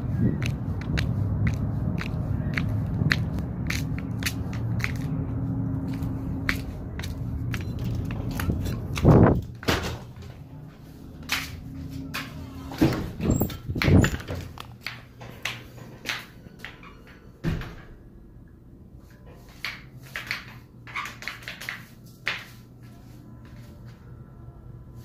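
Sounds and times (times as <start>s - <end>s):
steady low hum: 0.0s - 20.9s, 21.9s - 25.0s.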